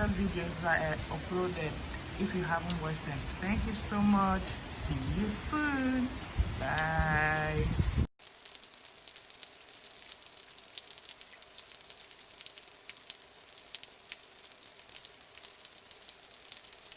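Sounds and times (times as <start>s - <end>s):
raindrops ticking: 0.0s - 16.9s
steady rain hiss: 0.0s - 16.9s.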